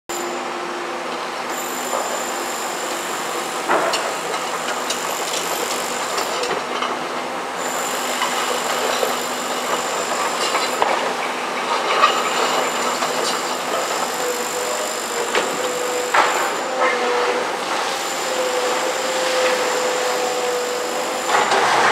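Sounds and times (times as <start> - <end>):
excavator engine and hydraulics: 0.1 - 21.9.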